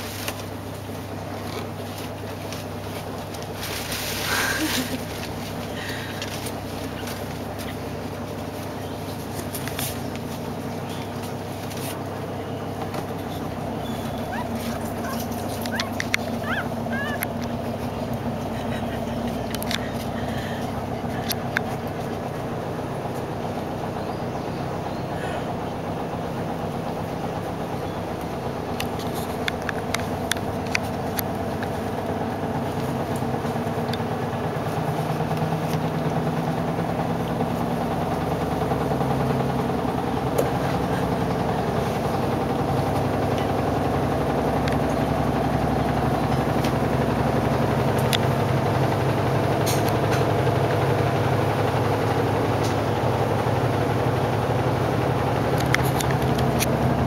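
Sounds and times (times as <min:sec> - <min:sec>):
motor humming: 0:00.0 - 0:57.0.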